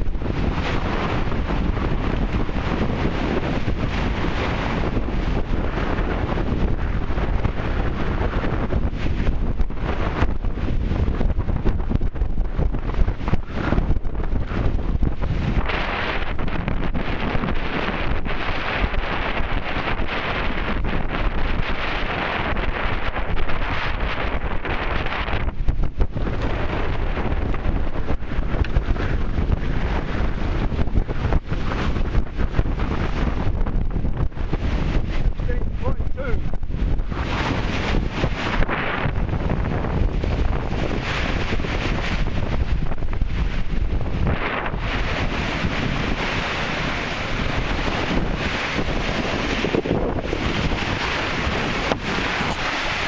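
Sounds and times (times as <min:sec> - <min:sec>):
water rushing along hulls: 0:00.0 - 0:53.0
wind buffeting microphone: 0:00.0 - 0:53.0.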